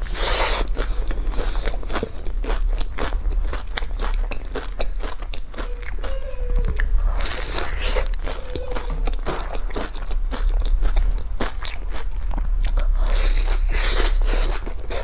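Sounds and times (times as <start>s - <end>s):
person crunching crunchy food: 0.0s - 15.0s.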